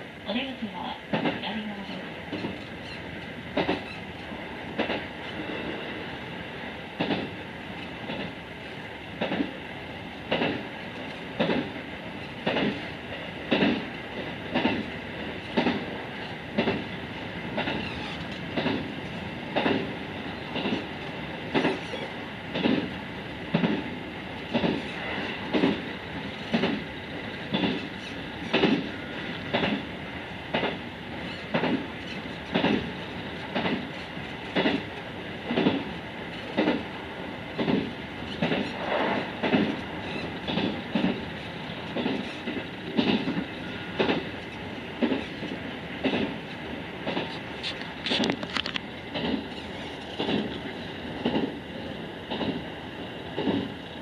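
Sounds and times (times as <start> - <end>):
train running noise: 0.0 - 54.0
train wheels clicking over rail joints: 1.1 - 54.0.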